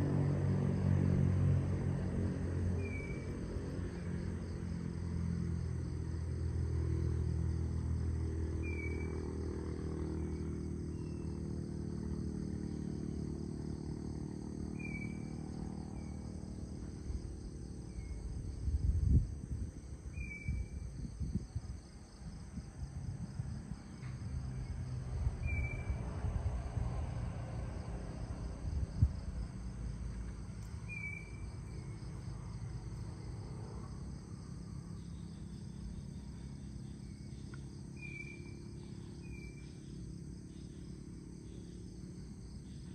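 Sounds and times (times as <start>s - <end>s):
crickets and insects trilling: 0.0s - 42.9s.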